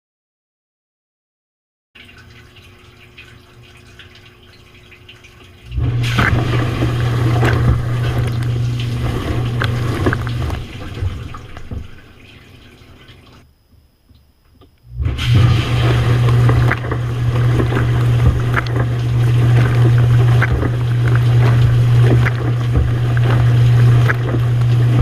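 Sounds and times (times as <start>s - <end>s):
water rushing and splashing: 2.0s - 13.4s, 15.0s - 25.0s
dishwasher pump motor humming: 2.0s - 13.5s, 14.6s - 25.0s.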